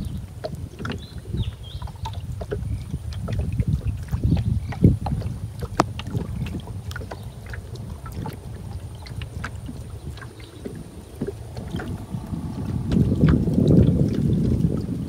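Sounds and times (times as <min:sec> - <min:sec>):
low steady rumble: 0:00.0 - 0:15.0
paddle splashing in water: 0:00.0 - 0:15.0.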